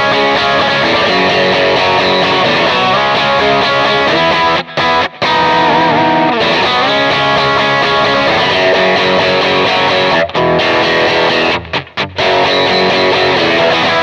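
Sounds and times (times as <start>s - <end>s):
overdriven electric guitar: 0.0s - 14.0s.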